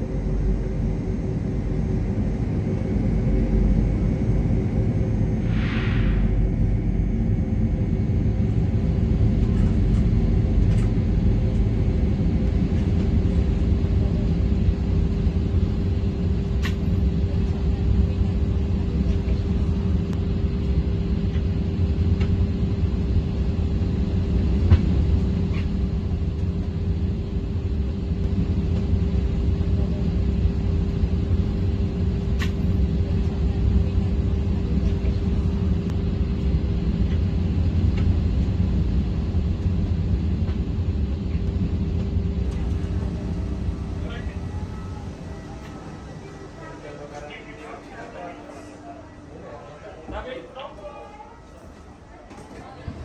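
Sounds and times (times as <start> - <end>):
cabin ventilation hum: 6.3 - 53.0.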